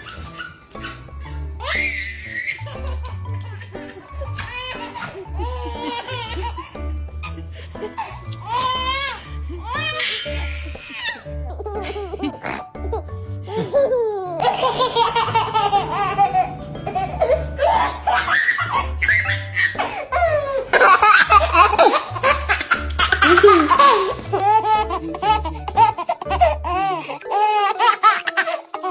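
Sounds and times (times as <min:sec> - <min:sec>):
background music with bass: 0:00.0 - 0:27.0
baby laughing: 0:00.0 - 0:28.9.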